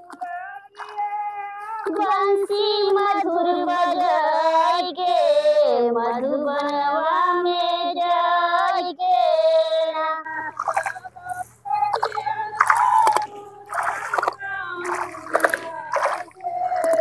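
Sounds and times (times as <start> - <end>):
women singing folk song unaccompanied: 0.0 - 17.0.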